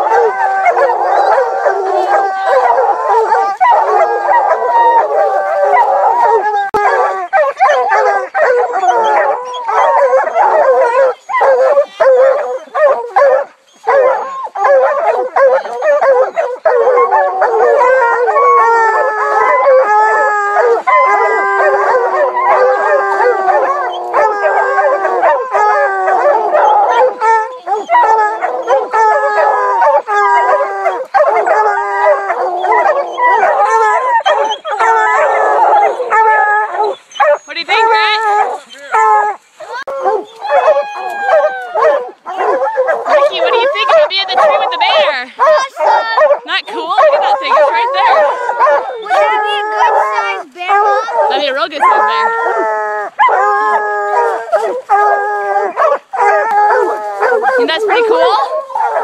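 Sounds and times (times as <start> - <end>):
hounds baying and howling: 0.0 - 59.0.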